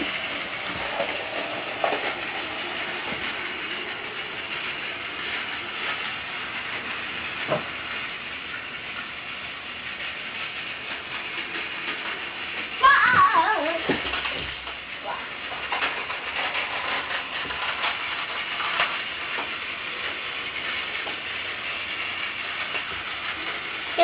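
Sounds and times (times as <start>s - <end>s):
toy train whirring rattle: 0.0s - 24.0s.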